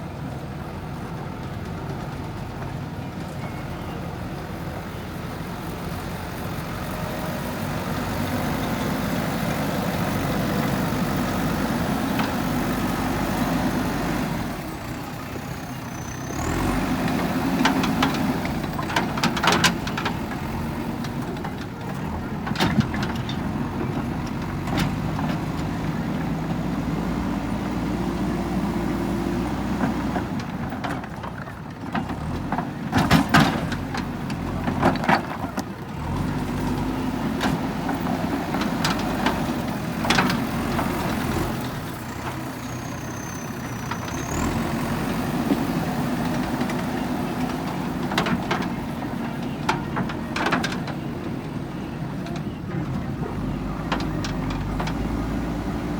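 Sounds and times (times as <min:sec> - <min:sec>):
diesel engine under load: 0:00.0 - 0:55.9.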